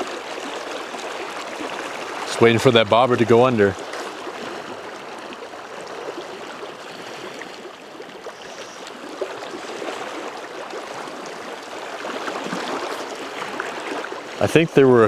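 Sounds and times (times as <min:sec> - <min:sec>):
water splashing and gurgling: 0:00.0 - 0:15.0.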